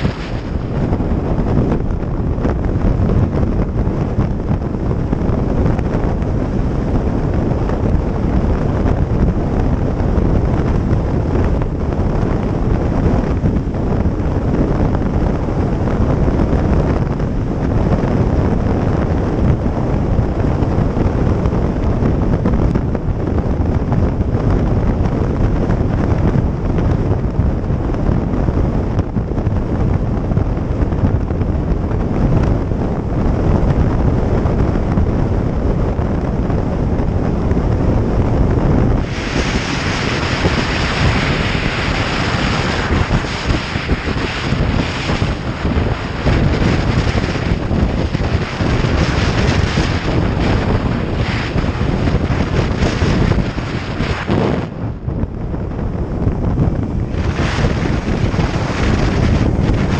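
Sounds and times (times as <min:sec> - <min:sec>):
low motorcycle rumble: 0:00.0 - 0:59.9
wind rushing over microphone: 0:00.0 - 0:59.9.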